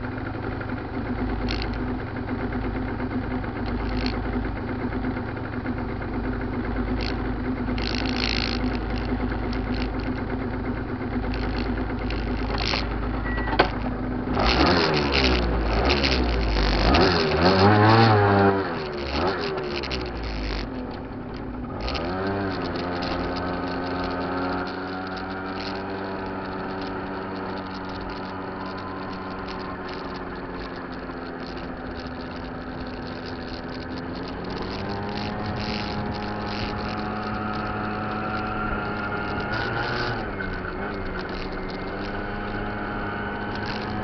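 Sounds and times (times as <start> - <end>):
scooter engine running: 0.0 - 44.0.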